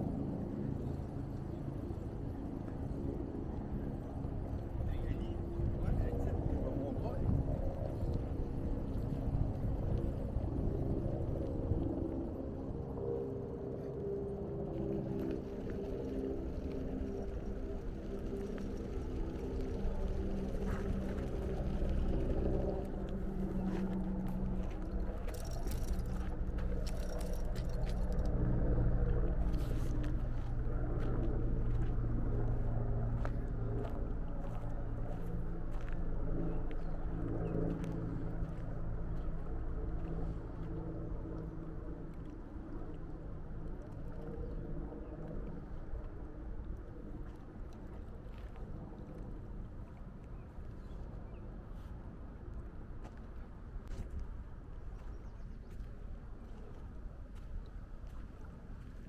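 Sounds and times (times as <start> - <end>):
outdoor noise: 0.0 - 59.0
wind rumble on microphone: 0.0 - 59.0.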